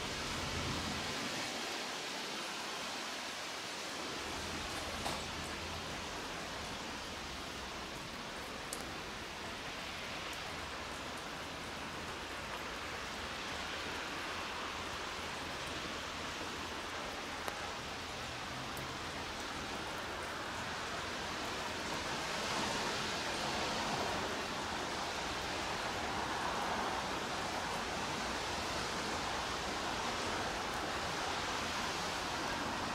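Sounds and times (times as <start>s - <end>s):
light rain hissing: 0.0s - 32.9s.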